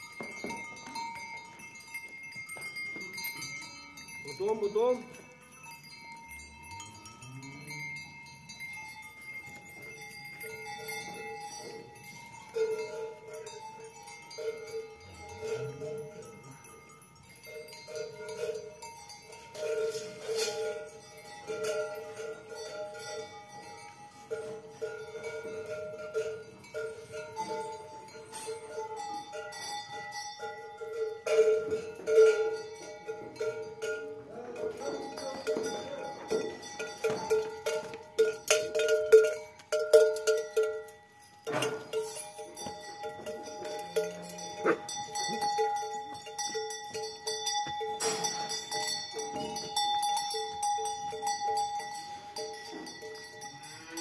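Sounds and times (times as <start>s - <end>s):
cowbell clanking: 0.0s - 54.0s.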